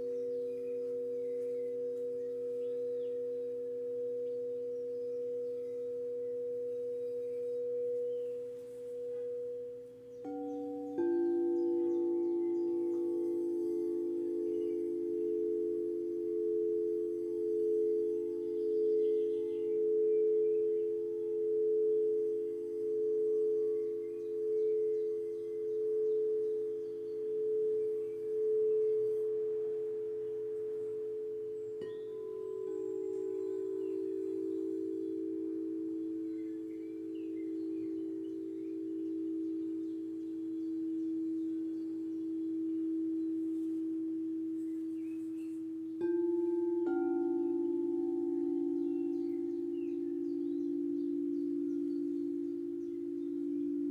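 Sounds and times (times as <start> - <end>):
faint bird chirps: 0.0 - 53.9
singing bowls ringing: 0.0 - 53.9.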